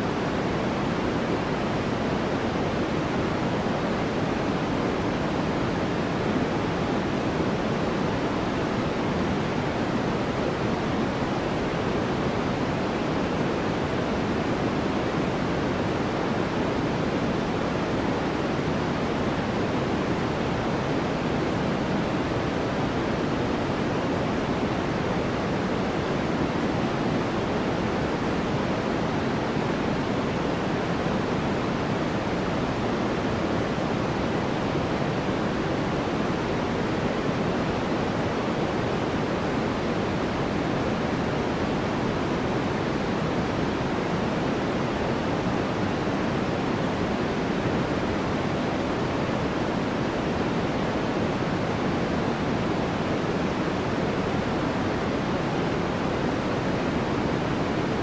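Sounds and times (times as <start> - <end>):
deep even white noise hiss: 0.0 - 58.0.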